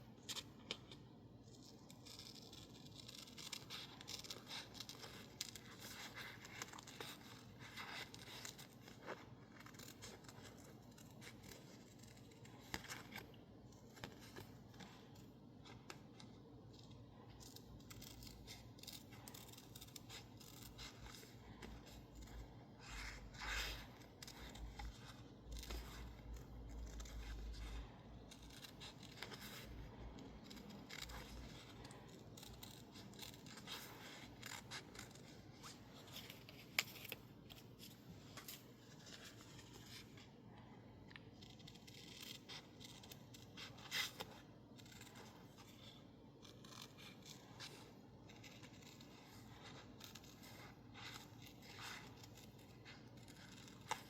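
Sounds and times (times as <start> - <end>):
scissors snipping paper: 0.2 - 40.3, 41.0 - 54.0.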